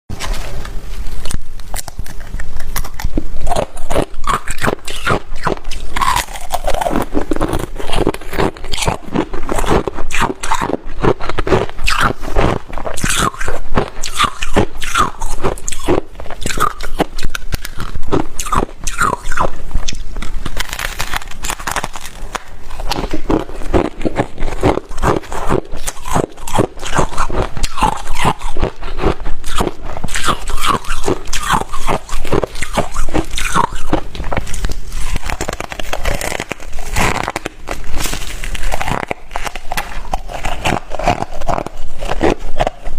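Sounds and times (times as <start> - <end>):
chewing crunchy ice: 1.1 - 42.9.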